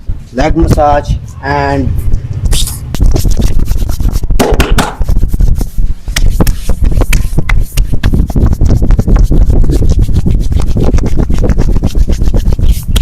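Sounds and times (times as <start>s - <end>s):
hands rubbing skin: 2.4s - 13.0s.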